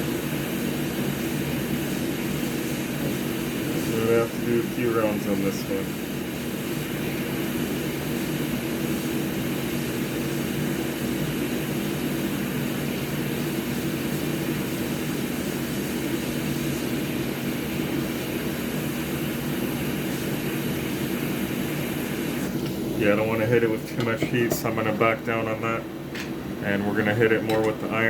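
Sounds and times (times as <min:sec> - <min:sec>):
hot air blower hum and hiss: 0:00.0 - 0:28.0.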